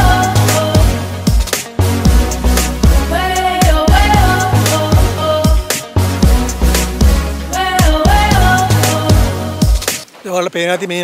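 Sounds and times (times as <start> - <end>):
deep kick drums: 0.0 - 7.2, 7.8 - 9.9
background music: 0.0 - 10.8.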